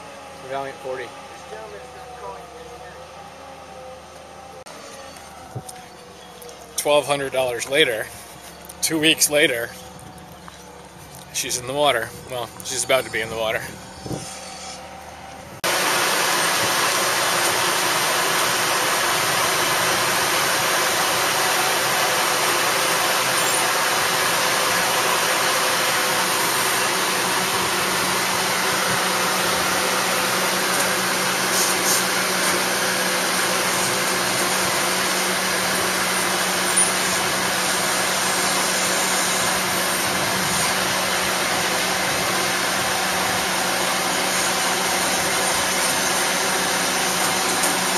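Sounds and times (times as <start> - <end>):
travel lift engine humming: 0.0 - 47.9.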